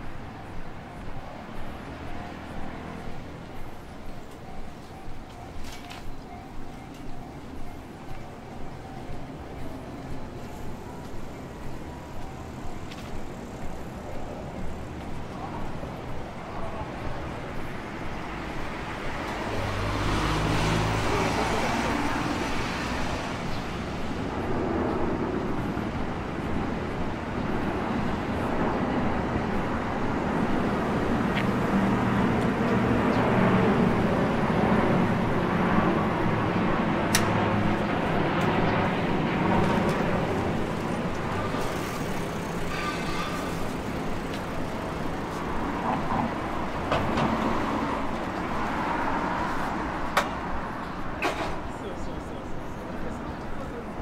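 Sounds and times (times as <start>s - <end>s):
city road traffic: 0.0s - 54.0s.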